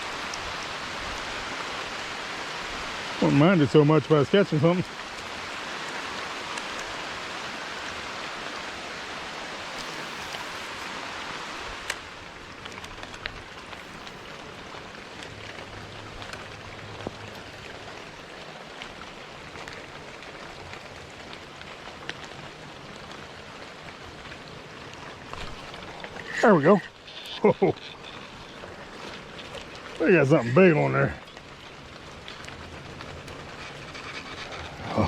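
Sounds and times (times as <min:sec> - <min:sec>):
rain hissing on water: 0:00.0 - 0:35.0.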